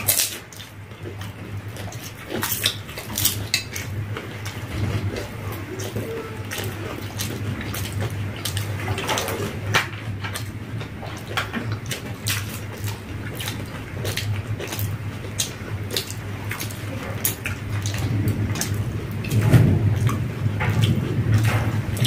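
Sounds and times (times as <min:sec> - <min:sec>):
steady low hum: 0:00.0 - 0:22.0
wet chewing: 0:00.0 - 0:22.0.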